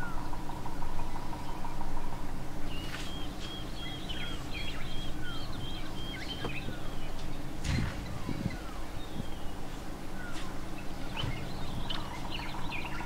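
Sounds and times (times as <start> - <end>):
low background hum: 0.0 - 13.0
wild birds calling: 0.0 - 13.0.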